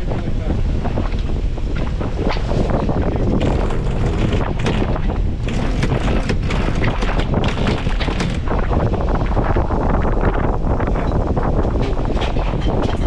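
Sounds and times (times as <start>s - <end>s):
low rumble: 0.0s - 13.0s
wind buffeting microphone: 0.0s - 13.0s.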